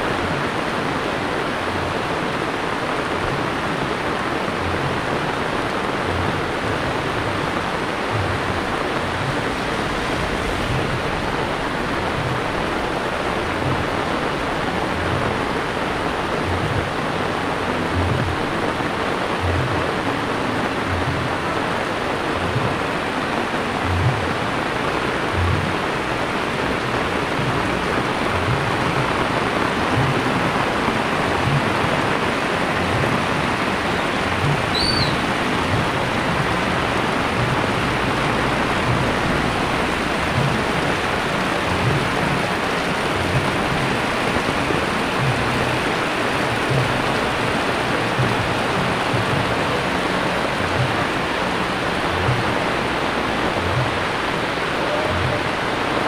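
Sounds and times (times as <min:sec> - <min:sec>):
heavy rain on pavement: 0:00.0 - 0:56.0
soft low thumps: 0:03.0 - 0:56.0.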